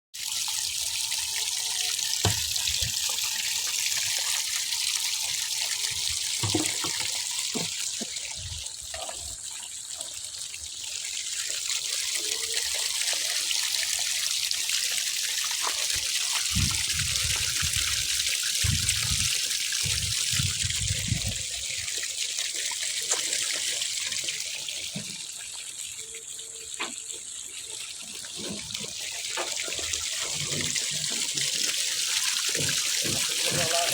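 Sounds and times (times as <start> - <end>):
water gushing from a well: 0.2 - 33.9.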